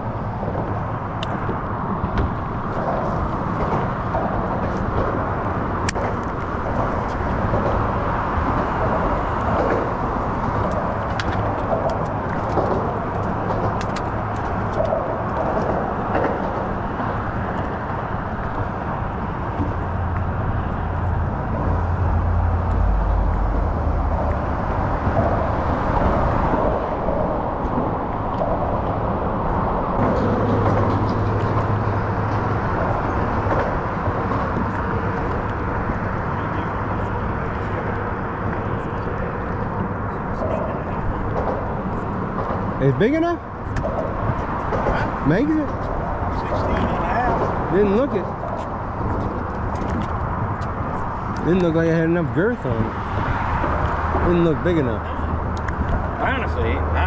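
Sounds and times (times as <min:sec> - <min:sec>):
heavy vehicle low rumble: 0:00.0 - 0:57.0
road traffic hum: 0:00.0 - 0:57.0.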